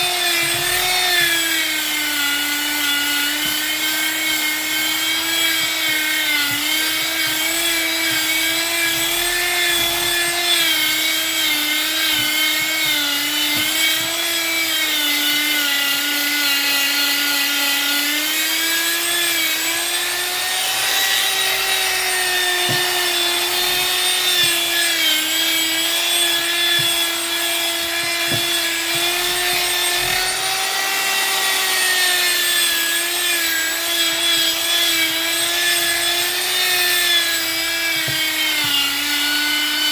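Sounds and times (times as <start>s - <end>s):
power tool whining on wood: 0.0s - 39.9s.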